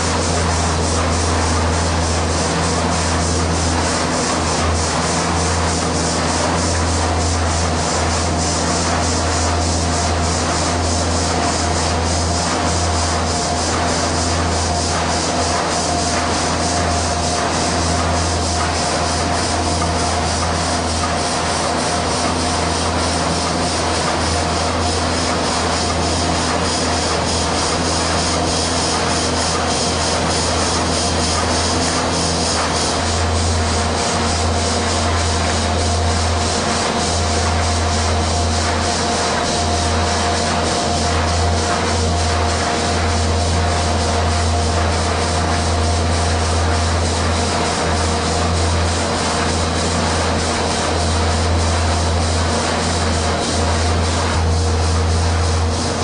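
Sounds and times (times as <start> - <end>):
steam engine running steadily: 0.0 - 56.0.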